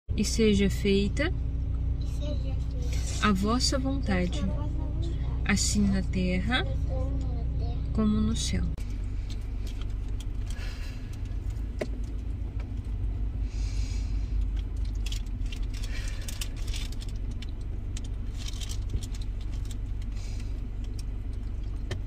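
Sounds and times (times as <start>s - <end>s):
low rumble inside car: 0.1s - 22.0s.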